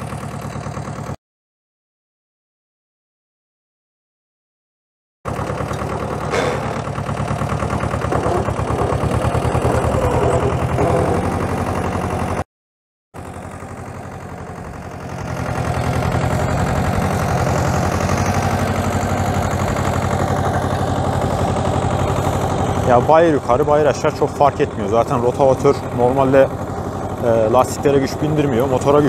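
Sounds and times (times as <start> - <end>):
tractor engine running under load: 0.0 - 1.2, 5.3 - 12.4, 13.2 - 29.0.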